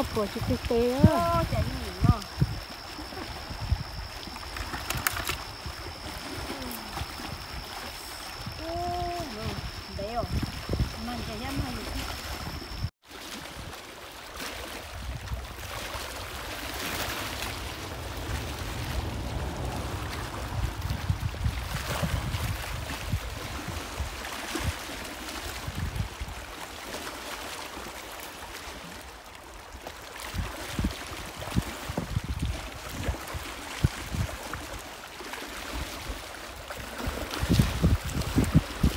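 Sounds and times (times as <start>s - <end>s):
wind rumbling on microphone: 0.0s - 13.8s, 14.6s - 26.9s, 28.7s - 38.9s
waves breaking on rocky shore: 0.0s - 38.9s.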